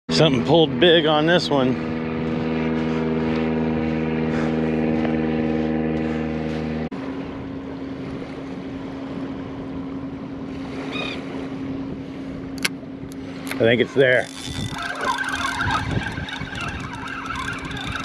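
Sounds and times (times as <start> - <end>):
steady engine hum: 0.1 - 18.0.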